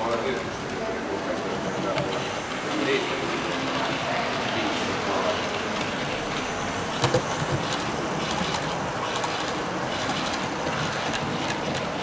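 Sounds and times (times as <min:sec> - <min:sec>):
hall background hum: 0:00.0 - 0:12.0
model train wheels clicking on rails: 0:00.0 - 0:12.0.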